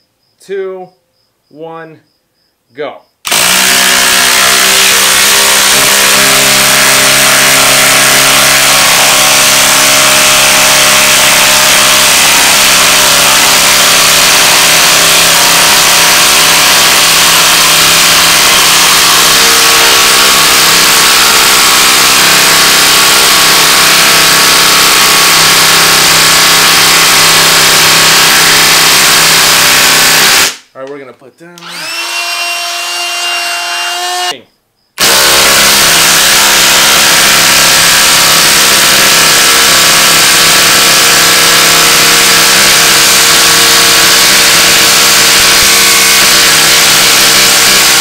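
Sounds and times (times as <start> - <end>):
impact driver hammering: 3.2 - 30.6, 35.0 - 48.0.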